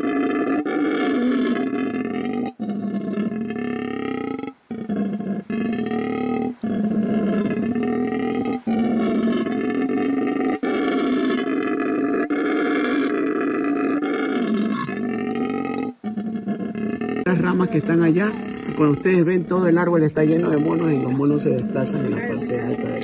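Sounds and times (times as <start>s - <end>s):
howler monkey roaring: 0.0s - 23.0s.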